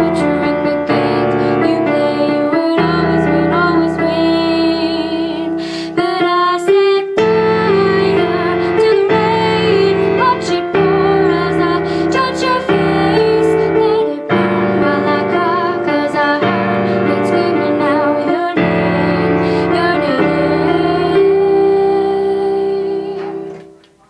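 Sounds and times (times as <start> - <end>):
woman singing: 0.0 - 23.6
piano accompaniment: 0.0 - 24.0.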